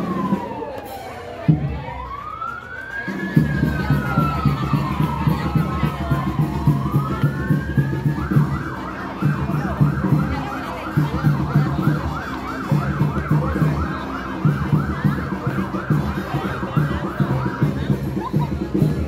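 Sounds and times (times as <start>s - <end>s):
electronic siren yelping: 0.0s - 18.0s.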